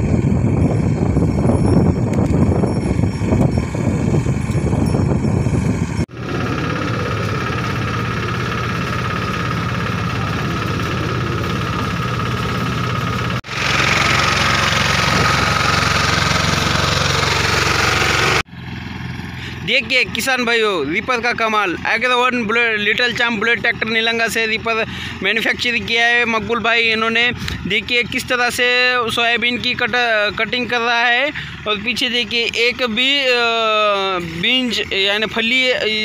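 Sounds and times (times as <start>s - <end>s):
small tractor engine running: 0.0s - 36.0s.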